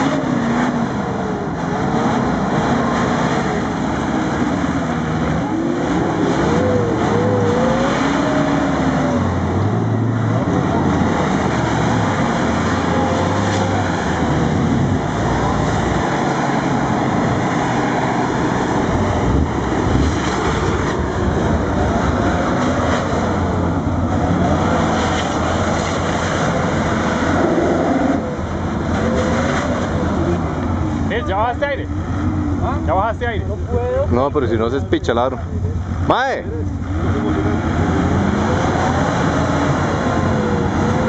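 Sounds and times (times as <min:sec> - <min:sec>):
suv engine revving: 0:00.0 - 0:41.0
wheels churning through mud: 0:00.0 - 0:41.0.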